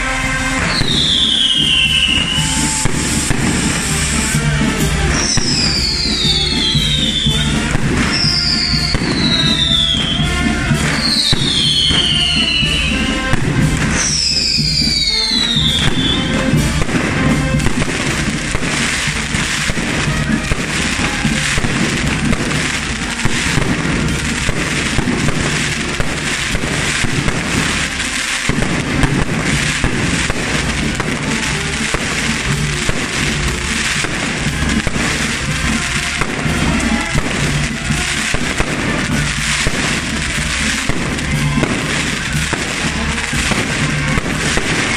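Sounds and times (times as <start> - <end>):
falling whistles of fireworks: 0.0 - 44.9
firecrackers crackling: 0.0 - 44.9.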